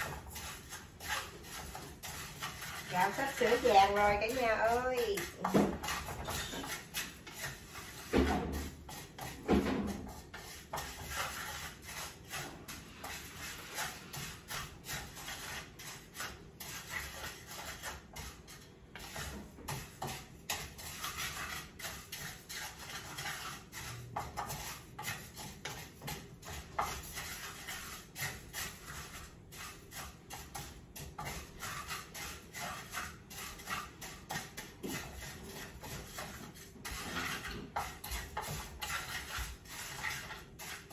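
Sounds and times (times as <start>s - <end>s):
spatula stirring rice in pan: 0.0s - 40.9s.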